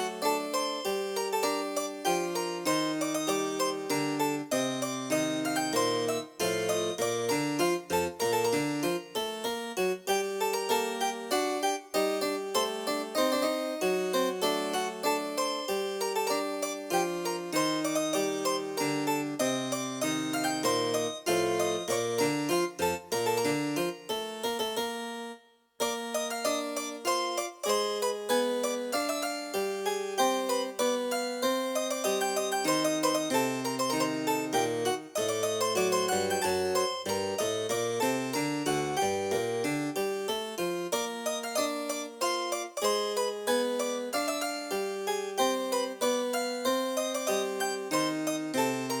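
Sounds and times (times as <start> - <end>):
harpsichord sound on digital piano: 0.0 - 49.0.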